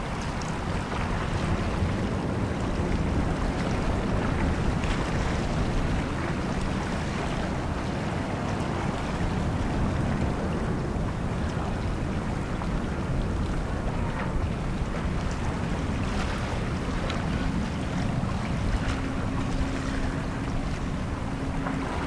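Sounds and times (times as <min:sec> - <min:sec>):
distant jet engines rumbling: 0:00.0 - 0:22.0
wind buffeting microphone: 0:00.0 - 0:22.0.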